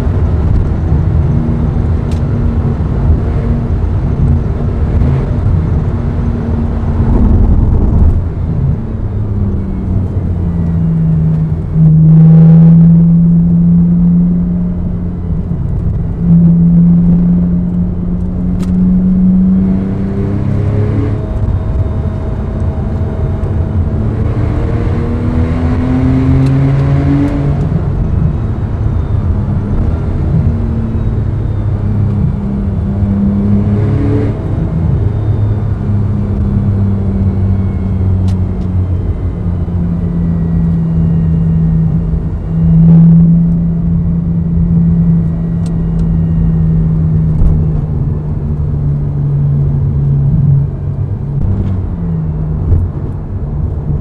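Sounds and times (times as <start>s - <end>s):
car engine through loud exhaust: 0.0s - 54.0s.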